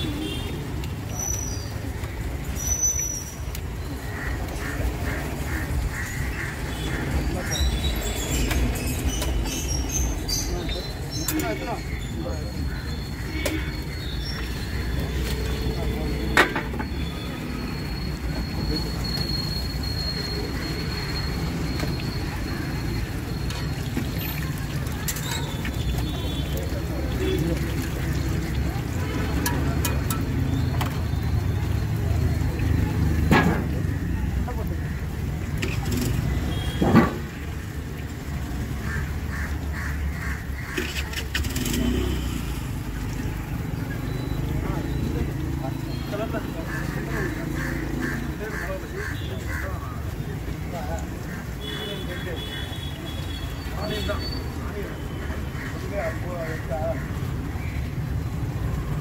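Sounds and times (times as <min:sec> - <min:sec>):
low rumble of street traffic: 0:00.0 - 0:59.0.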